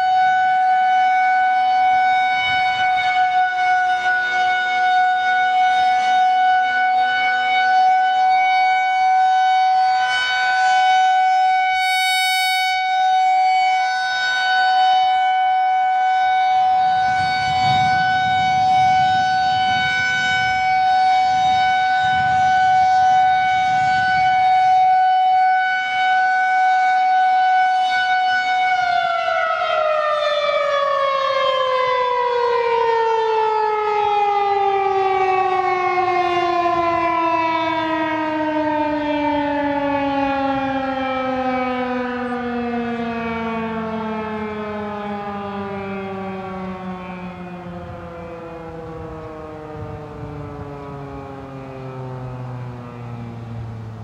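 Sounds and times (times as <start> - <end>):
tornado siren: 0.0 - 54.0.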